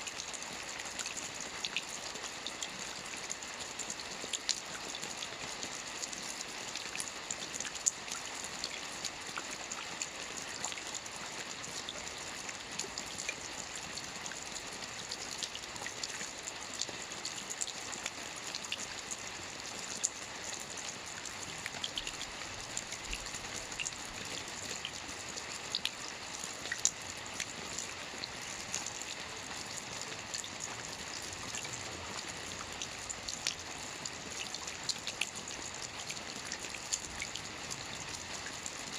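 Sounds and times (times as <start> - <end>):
light rain falling: 0.0 - 38.9
raindrops ticking on a surface: 0.0 - 38.9.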